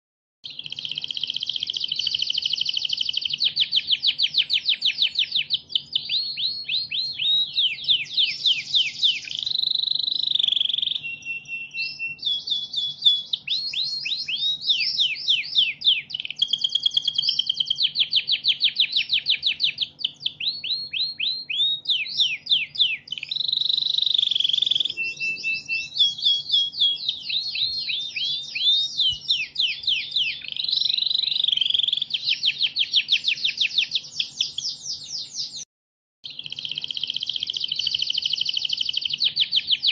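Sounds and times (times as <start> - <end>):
songbird chirps and whistles: 0.4 - 39.9.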